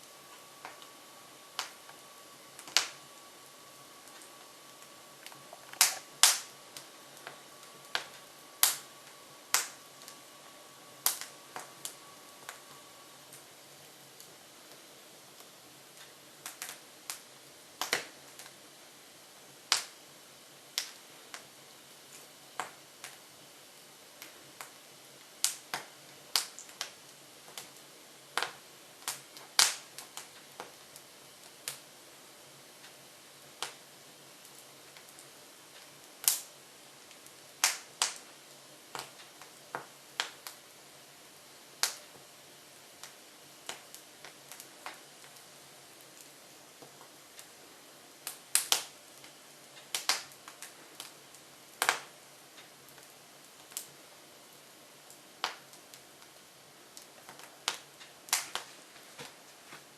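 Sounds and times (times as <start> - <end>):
logs crackling in wood stove: 0.0 - 59.9.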